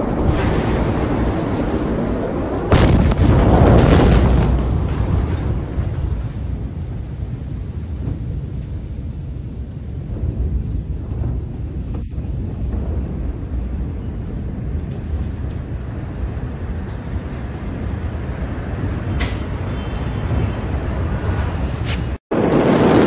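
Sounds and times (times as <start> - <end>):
low rumble after explosion: 0.0 - 23.0.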